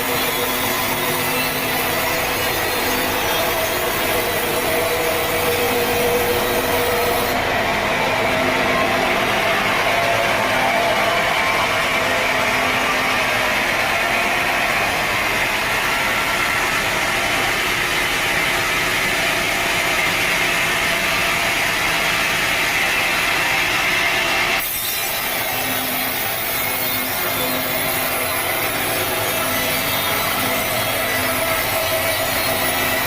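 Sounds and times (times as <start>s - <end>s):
saw cutting through log: 0.0s - 33.0s.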